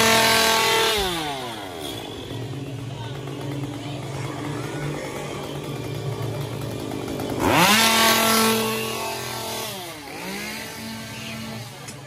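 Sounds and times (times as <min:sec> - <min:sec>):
chainsaw idling and revving: 0:00.0 - 0:12.0.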